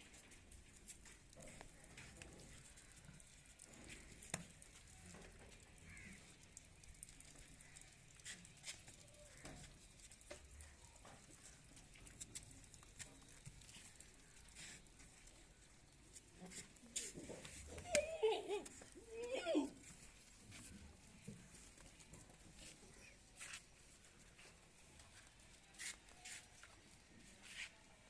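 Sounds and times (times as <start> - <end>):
goats shuffling and clicking: 0.0 - 28.0.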